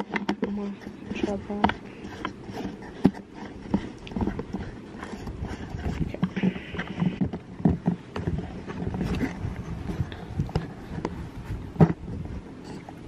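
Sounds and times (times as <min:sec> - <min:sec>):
fabric rubbing on microphone: 0:00.6 - 0:07.2, 0:08.3 - 0:12.9.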